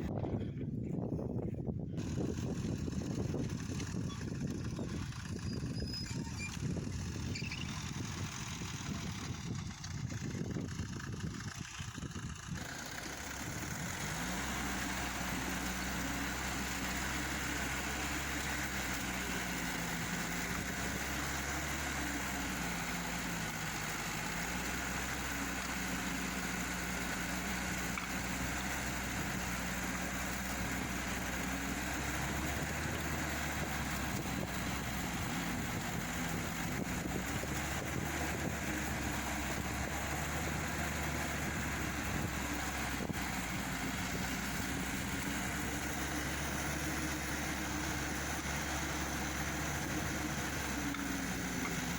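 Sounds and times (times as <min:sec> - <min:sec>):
tiller engine running: 0:01.9 - 0:51.9.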